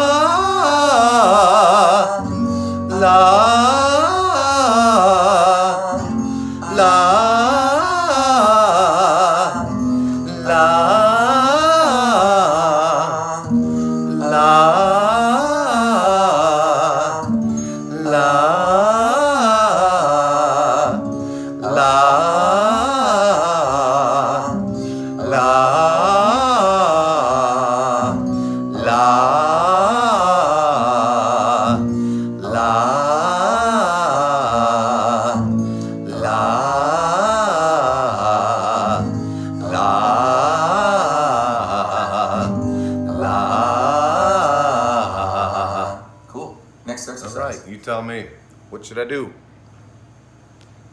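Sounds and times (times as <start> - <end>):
man singing vocal exercises: 0.0 - 46.2.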